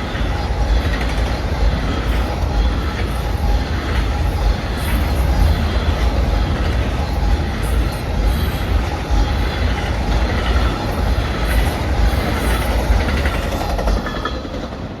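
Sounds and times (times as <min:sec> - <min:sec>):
train cars rumbling past: 0:00.0 - 0:15.0
wheels clattering on rail: 0:00.0 - 0:15.0.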